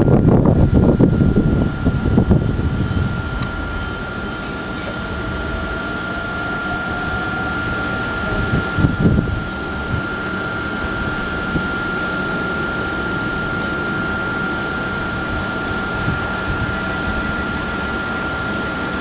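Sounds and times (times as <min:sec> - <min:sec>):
electric train humming and whining: 0:00.0 - 0:19.0.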